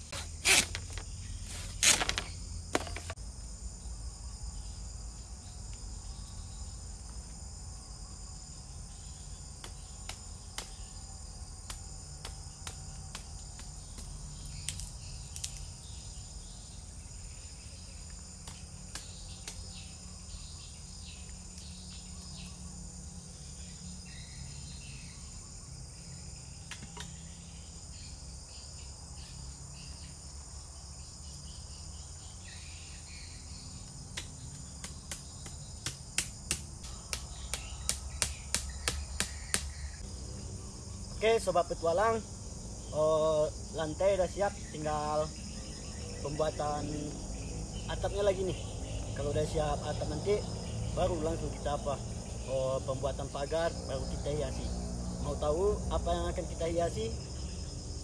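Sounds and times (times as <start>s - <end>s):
forest insects calling: 0.0s - 58.0s.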